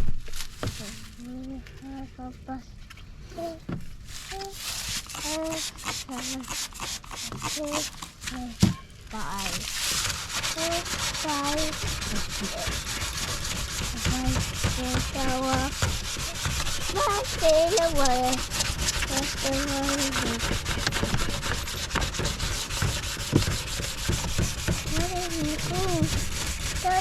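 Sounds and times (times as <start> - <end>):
sanding headlight lens: 4.2 - 8.4, 9.2 - 27.0.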